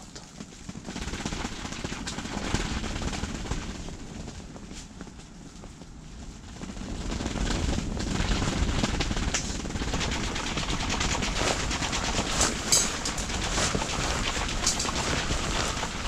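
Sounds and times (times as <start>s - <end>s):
tent fabric flapping in wind: 0.0s - 16.0s.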